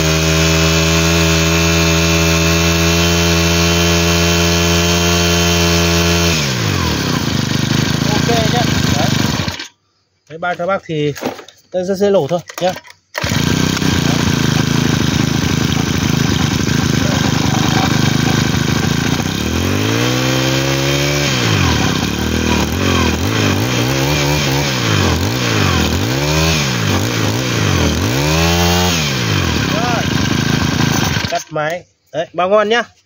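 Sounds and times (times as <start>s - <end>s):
brush-cutter engine revving: 0.0s - 9.8s, 12.2s - 31.8s.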